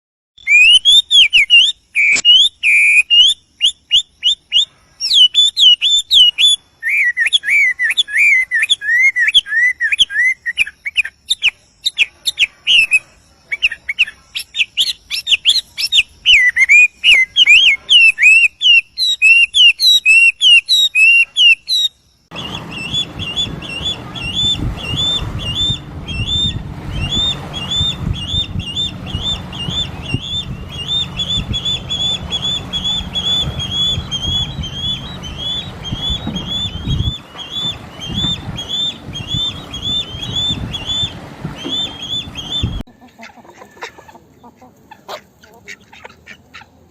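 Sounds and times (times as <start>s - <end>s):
birds chirping and calling: 0.4s - 46.9s
steady background noise: 0.5s - 46.9s.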